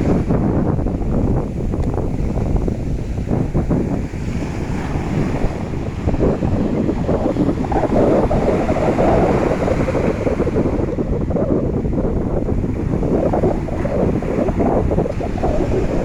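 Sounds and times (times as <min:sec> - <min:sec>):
sea surf washing in: 0:00.0 - 0:16.0
wind buffeting microphone: 0:00.0 - 0:16.0.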